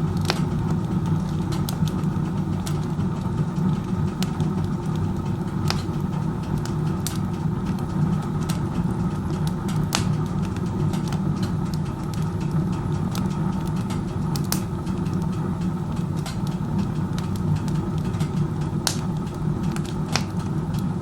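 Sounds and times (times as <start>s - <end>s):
firewood popping and crackling: 0.0s - 21.0s.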